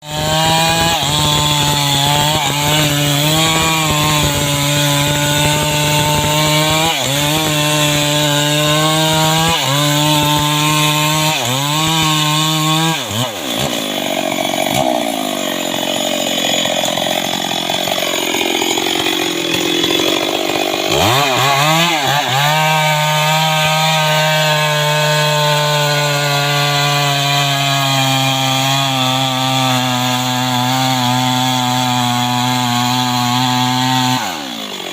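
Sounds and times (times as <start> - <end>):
chainsaw cutting into wood: 0.0 - 34.9
chainsaw running at high revs: 0.0 - 34.9.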